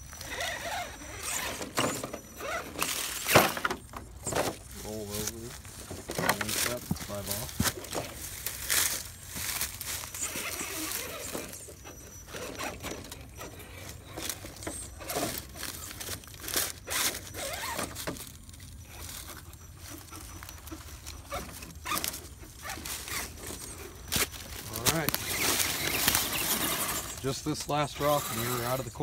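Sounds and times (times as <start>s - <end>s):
electric motor and gears whining: 0.0s - 29.0s
tires scraping on stone: 0.0s - 29.0s.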